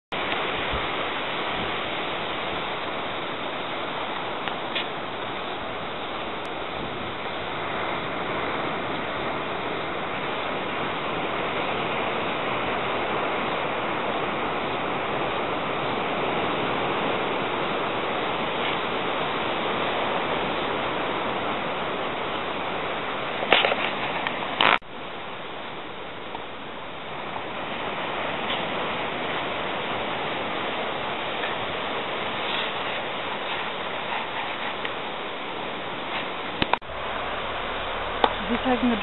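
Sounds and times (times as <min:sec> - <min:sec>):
surf breaking on beach: 0:00.1 - 0:39.0.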